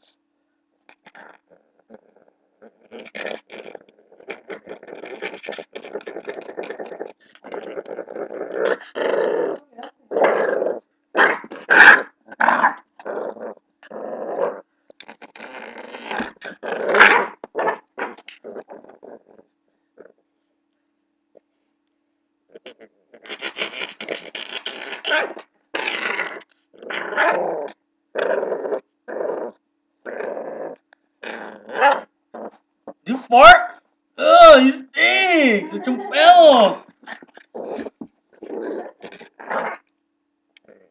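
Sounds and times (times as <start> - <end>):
puppy growling: 0.9 - 20.2, 22.5 - 39.9, 40.6 - 40.9.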